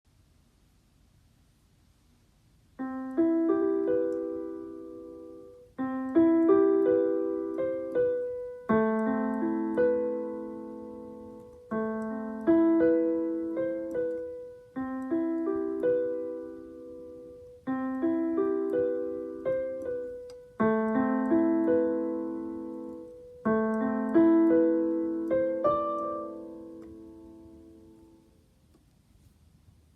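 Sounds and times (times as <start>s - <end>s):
piano chord arpeggiated: 2.8s - 28.4s.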